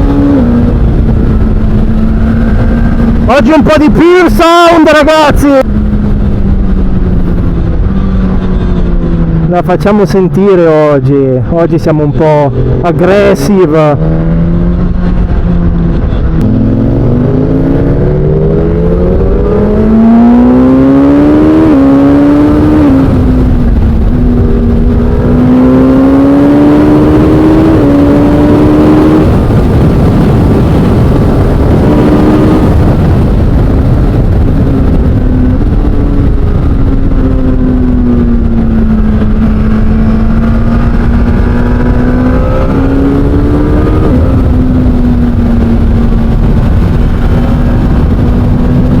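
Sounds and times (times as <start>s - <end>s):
motorcycle engine revving: 0.0s - 10.1s, 12.0s - 49.0s.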